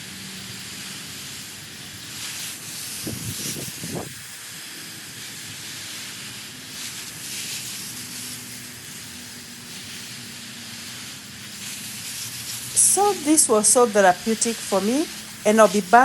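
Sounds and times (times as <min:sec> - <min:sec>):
water spraying from garden hose: 0:00.0 - 0:16.0.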